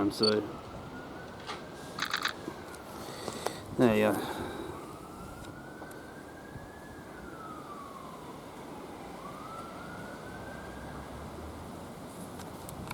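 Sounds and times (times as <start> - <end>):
faint emergency siren wailing: 0.0 - 12.1.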